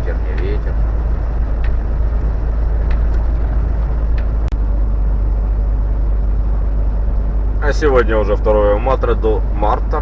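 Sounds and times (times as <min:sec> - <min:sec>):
road noise: 0:00.0 - 0:10.0
truck engine drone: 0:00.0 - 0:10.0.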